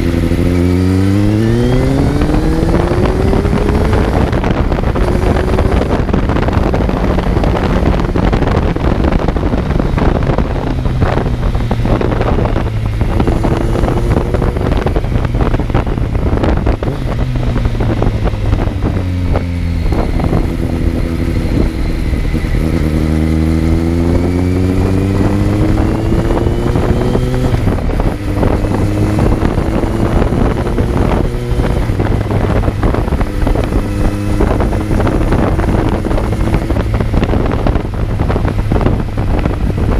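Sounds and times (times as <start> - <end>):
motorcycle engine accelerating: 0.0 - 39.9
wind rushing over microphone: 0.0 - 39.9.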